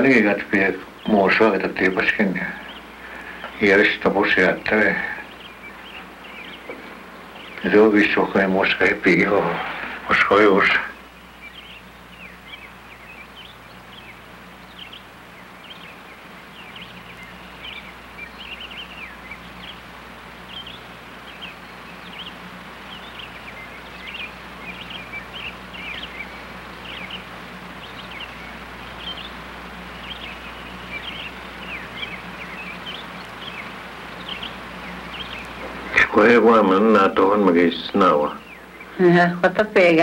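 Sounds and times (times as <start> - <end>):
small birds chirping: 0.0 - 40.0
steady low hum: 0.0 - 40.0.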